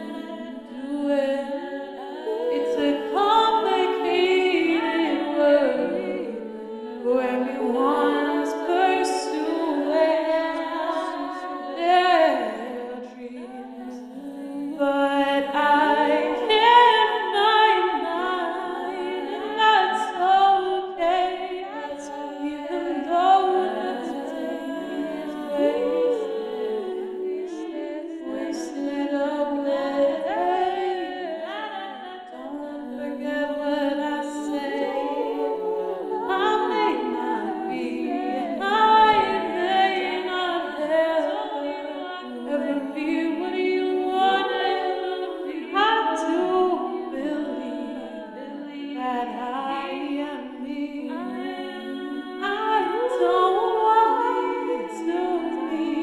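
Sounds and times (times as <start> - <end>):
women singing in harmony: 0.0 - 56.0.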